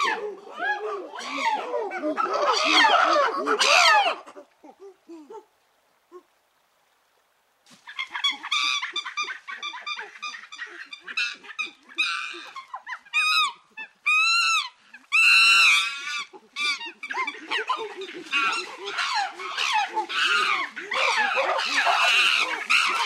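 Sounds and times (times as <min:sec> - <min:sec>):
chimpanzees screaming: 0:00.0 - 0:05.0, 0:07.8 - 0:23.0
chimpanzees hooting: 0:00.0 - 0:05.5, 0:07.9 - 0:23.0.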